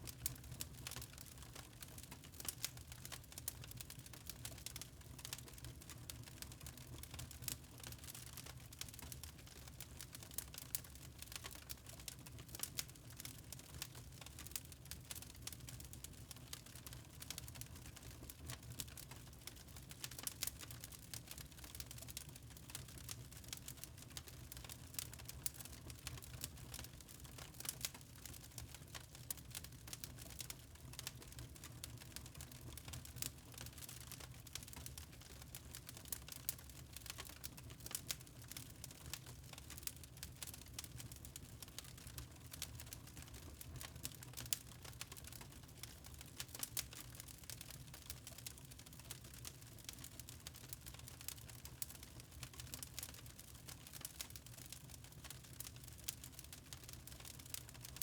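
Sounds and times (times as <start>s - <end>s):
fire crackling in a fireplace: 0.0s - 58.0s.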